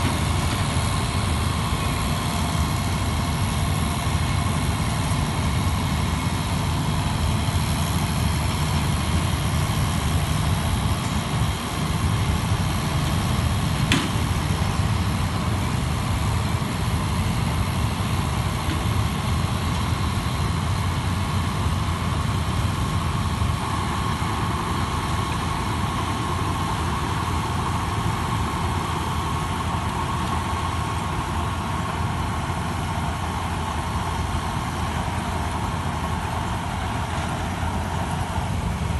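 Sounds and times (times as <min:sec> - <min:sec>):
engine running under load: 0:00.0 - 0:38.9
thin steady whine: 0:00.0 - 0:38.9.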